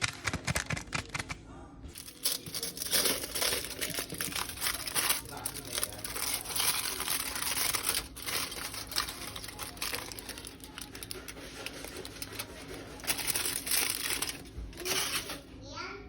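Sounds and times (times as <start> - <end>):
dense crackling and crinkling: 0.0 - 15.6.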